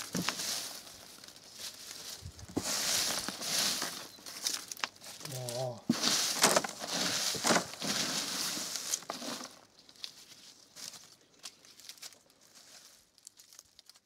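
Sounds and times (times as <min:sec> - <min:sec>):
leaves and chips rustling and crackling: 0:00.0 - 0:14.0.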